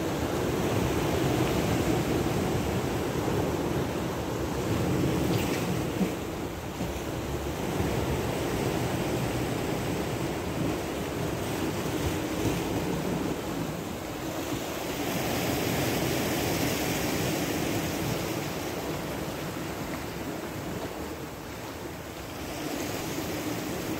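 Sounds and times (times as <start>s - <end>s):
surf washing against rocks: 0.0s - 23.9s.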